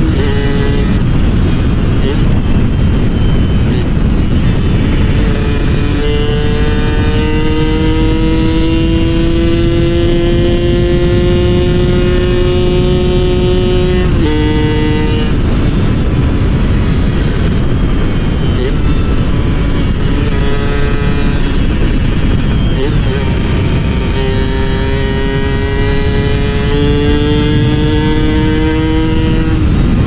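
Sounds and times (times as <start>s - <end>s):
steady rushing noise: 0.0s - 30.0s
two-stroke motorcycle engine revving: 0.0s - 30.0s.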